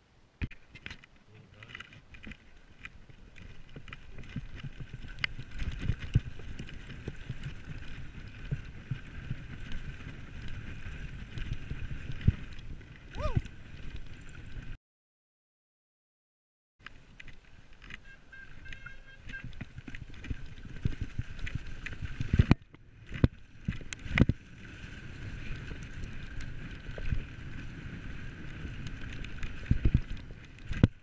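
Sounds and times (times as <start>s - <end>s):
bike tyre and suspension rumble: 0.4s - 14.8s, 16.8s - 31.0s.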